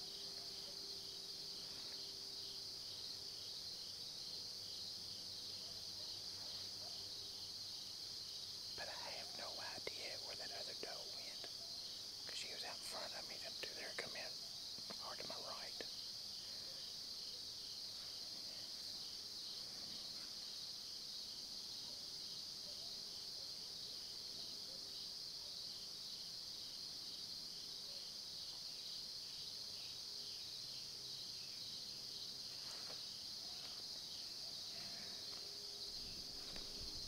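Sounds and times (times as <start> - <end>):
insect chorus trilling: 0.0 - 37.0.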